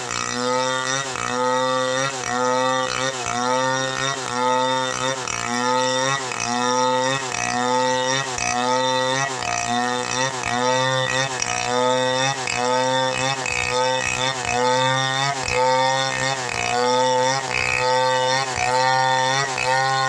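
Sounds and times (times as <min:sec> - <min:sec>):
chainsaw cutting a log: 0:00.0 - 0:20.0.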